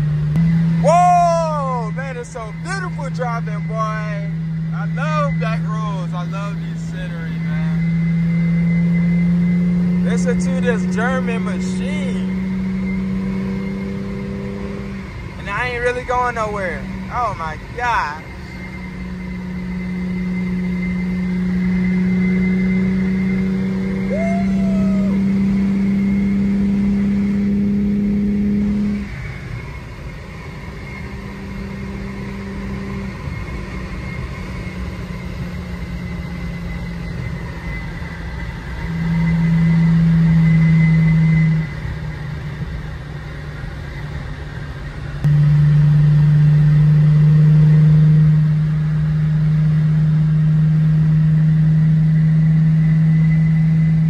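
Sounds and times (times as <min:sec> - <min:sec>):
car engine pulling: 0:00.0 - 0:54.0
tyre and road noise: 0:00.0 - 0:54.0.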